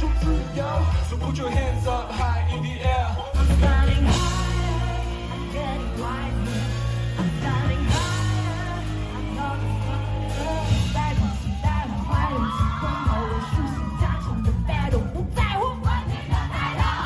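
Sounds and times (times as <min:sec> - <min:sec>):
deep bass notes: 0:00.0 - 0:17.0
person singing: 0:00.0 - 0:17.0.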